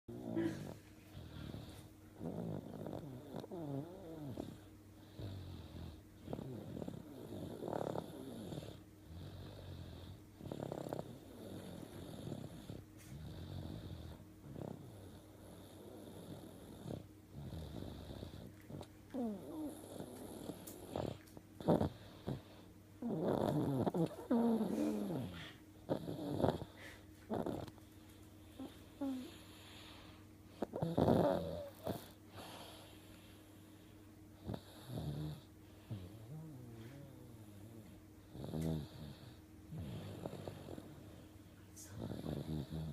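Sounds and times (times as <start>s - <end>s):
child snoring: 0.1s - 27.8s, 28.6s - 29.9s, 30.6s - 33.0s, 34.4s - 41.2s, 41.8s - 42.9s.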